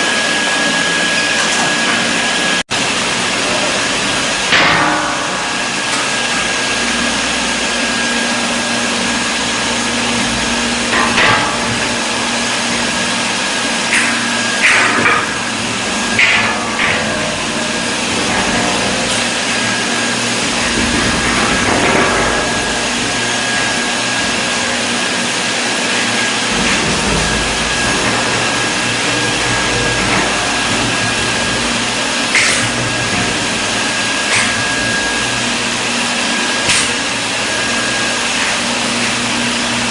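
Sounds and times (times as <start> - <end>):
machine whirring with high whine: 0.0 - 39.9.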